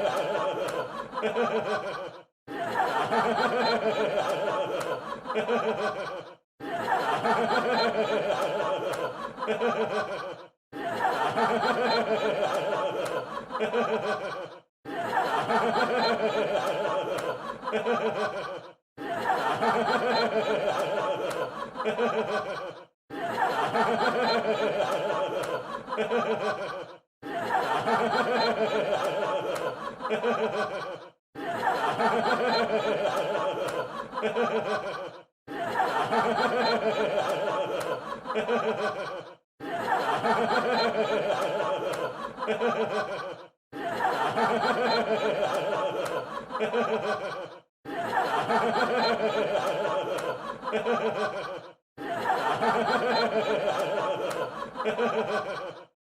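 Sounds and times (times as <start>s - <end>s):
crowd laughing laugh track: 0.0s - 56.0s.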